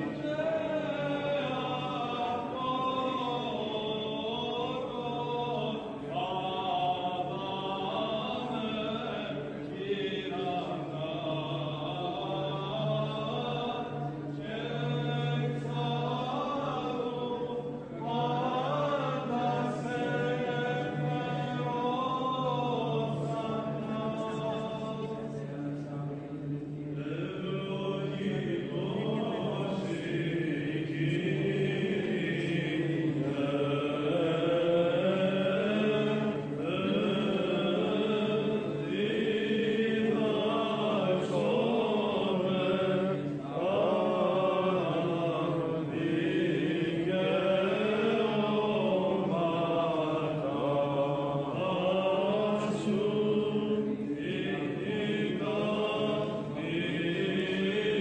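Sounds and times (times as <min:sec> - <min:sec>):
man chanting a hymn: 0:00.0 - 0:58.0.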